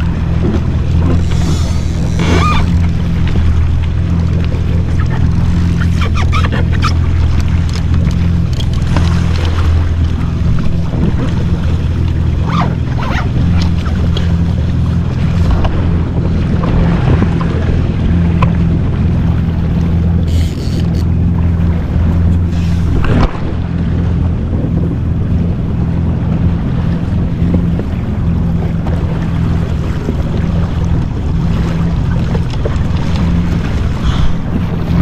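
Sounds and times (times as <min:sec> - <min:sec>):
jet ski engine idling: 0:00.0 - 0:35.0
water splashing against hull: 0:00.0 - 0:35.0
wind on microphone: 0:00.0 - 0:35.0.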